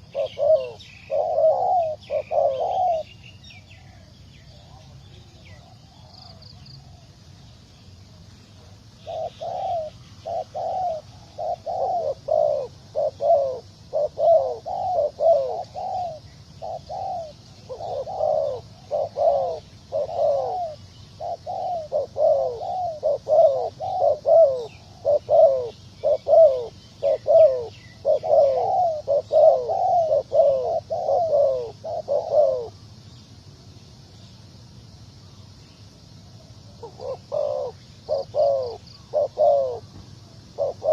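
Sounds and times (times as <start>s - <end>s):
dove cooing: 0.0s - 7.1s, 8.6s - 32.8s, 36.7s - 40.9s.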